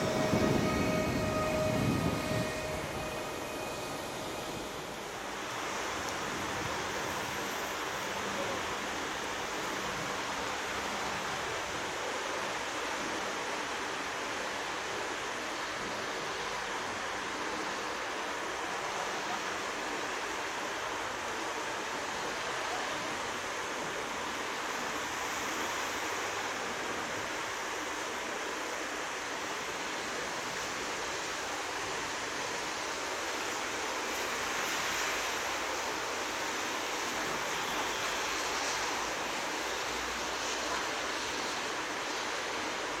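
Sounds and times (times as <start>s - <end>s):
train rushing on track: 0.0s - 43.0s.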